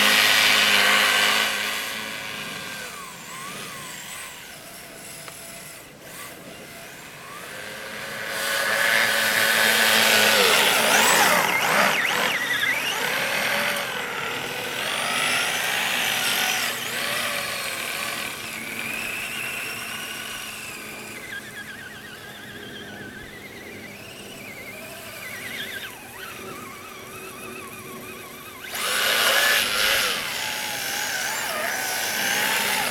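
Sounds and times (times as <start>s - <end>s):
electric motor and gears whining: 0.0s - 32.9s.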